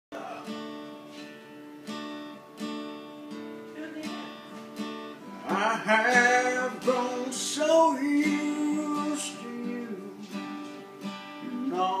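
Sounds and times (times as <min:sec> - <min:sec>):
acoustic guitar strumming: 0:00.2 - 0:12.0.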